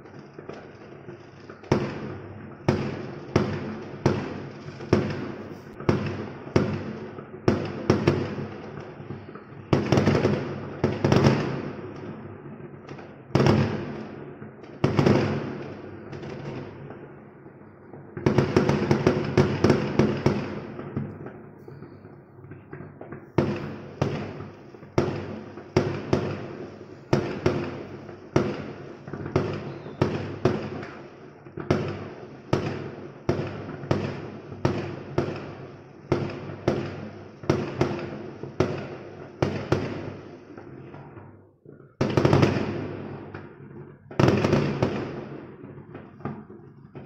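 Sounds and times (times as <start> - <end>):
fireworks banging and crackling: 0.0 - 47.0.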